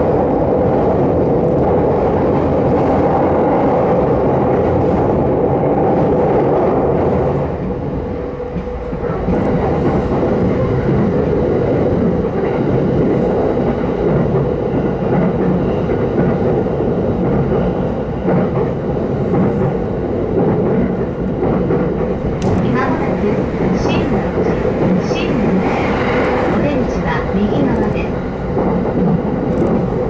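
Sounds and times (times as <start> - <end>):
train running noise from inside: 0.0 - 30.0.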